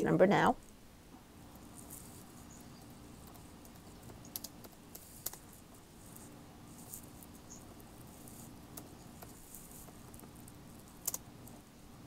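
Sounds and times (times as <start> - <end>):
low steady hum: 0.0 - 12.0
faint clicks and ticks: 1.5 - 11.6.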